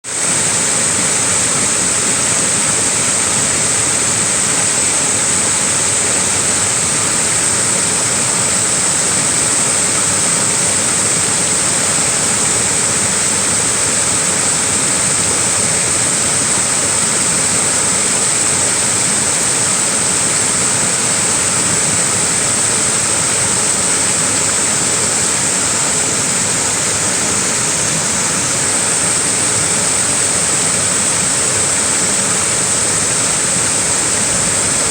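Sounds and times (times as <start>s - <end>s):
small waterfall rushing: 0.0s - 34.9s.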